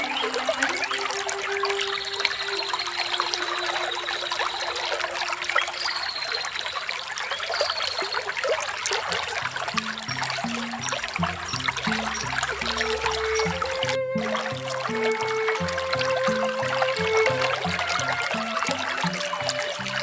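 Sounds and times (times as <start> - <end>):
small waterfall splashing: 0.0 - 20.0.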